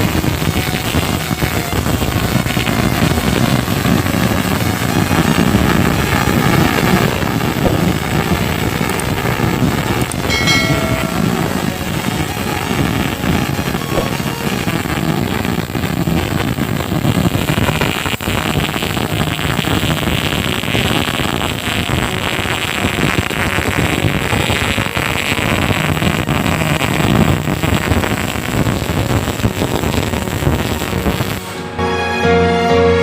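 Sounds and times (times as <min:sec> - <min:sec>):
welding arc crackling: 0:00.0 - 0:31.6.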